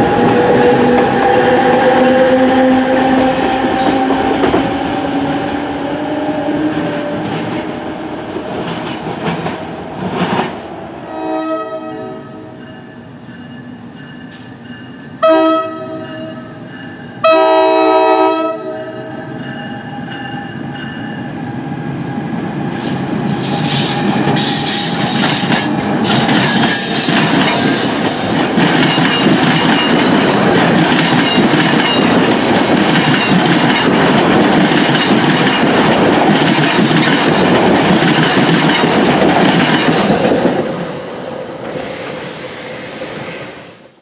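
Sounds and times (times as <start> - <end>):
train wheels rumbling and clattering: 0.0 - 10.8, 19.3 - 43.9.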